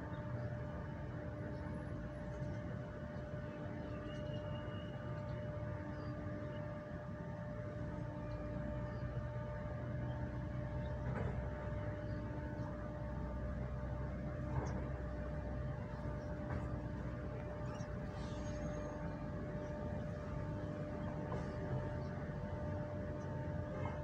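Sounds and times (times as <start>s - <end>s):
constant mechanical hum: 0.0s - 24.0s
low city rumble: 0.0s - 24.0s.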